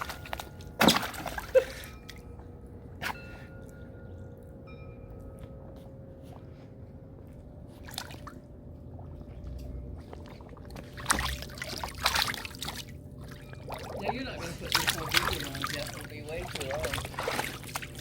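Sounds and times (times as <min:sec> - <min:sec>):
water sloshing and splashing: 0:00.0 - 0:04.6, 0:05.2 - 0:18.0.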